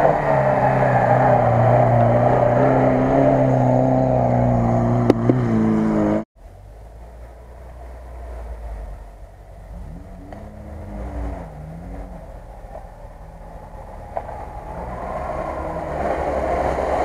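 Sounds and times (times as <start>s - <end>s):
engine running under load: 0.0s - 17.0s
low rumble: 0.0s - 17.0s.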